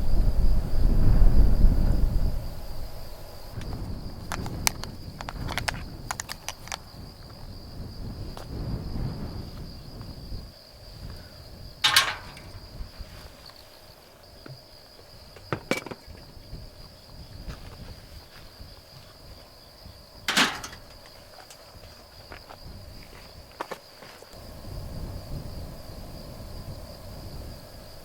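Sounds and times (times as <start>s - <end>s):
wind buffeting microphone: 0.0s - 13.6s, 16.0s - 23.6s, 24.4s - 28.0s.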